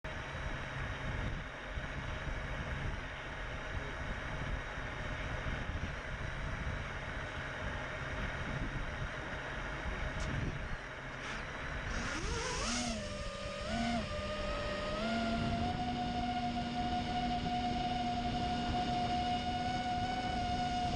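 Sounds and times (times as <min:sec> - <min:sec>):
drone motors and propellers: 0:00.1 - 0:20.9
wind rushing on microphone: 0:00.2 - 0:10.8, 0:11.7 - 0:20.9.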